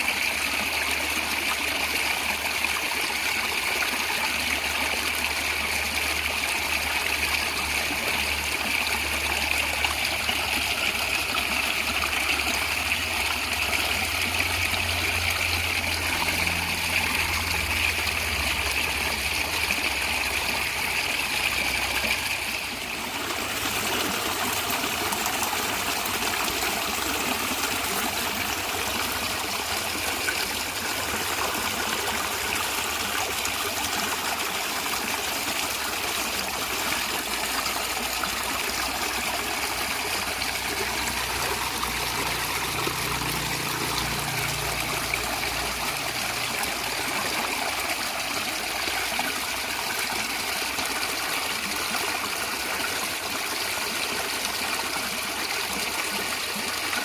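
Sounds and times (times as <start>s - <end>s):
stream gurgling over stones: 0.0s - 57.0s.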